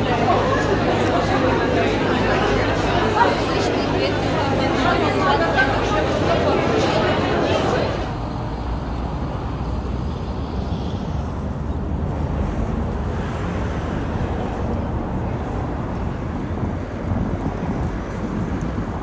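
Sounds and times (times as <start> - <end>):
outdoor street noise rumble: 0.0 - 19.0.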